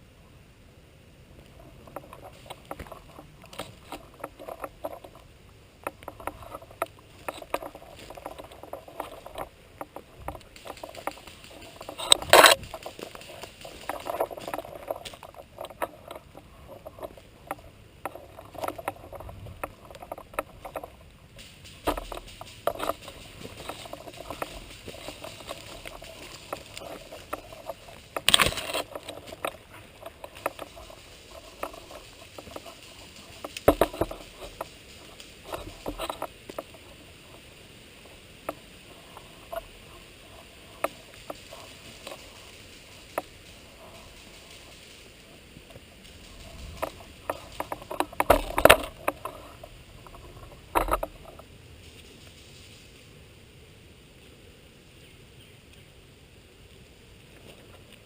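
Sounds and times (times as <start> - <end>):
rustling through undergrowth: 0.9 - 58.0.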